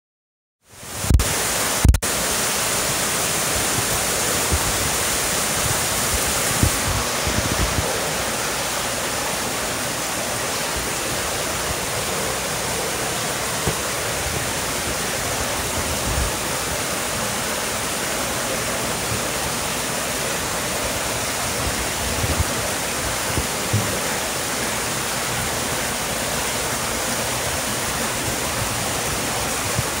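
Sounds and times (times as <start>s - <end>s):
running water rushing: 0.7s - 30.0s.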